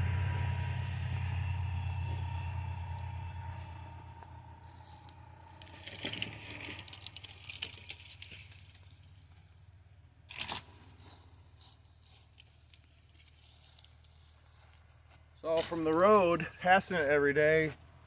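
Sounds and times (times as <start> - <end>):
twigs and brush crunching: 0.0 - 18.0.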